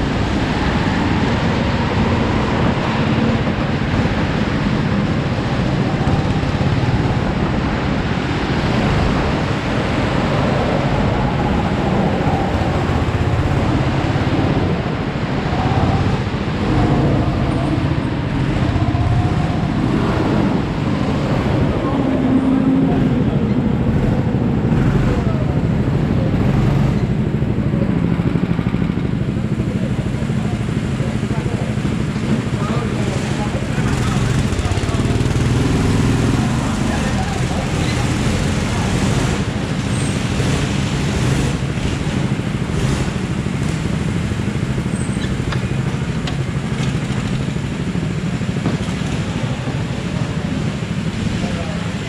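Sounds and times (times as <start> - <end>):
go-kart engine running: 0.0 - 52.0
kart rolling rumble: 0.0 - 52.0.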